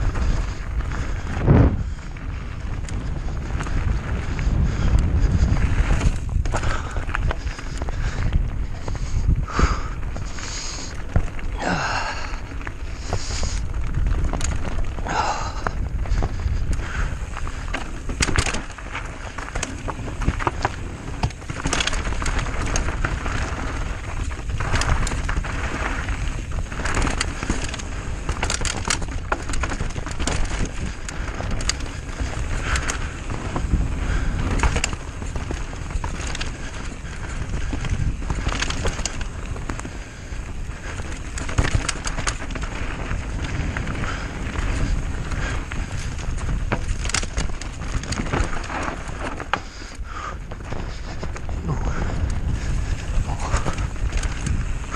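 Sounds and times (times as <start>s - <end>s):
bike rattling over bumps: 0.0s - 54.9s
bike tyres rolling over dirt: 0.0s - 54.9s
wind rumble on microphone: 0.0s - 54.9s.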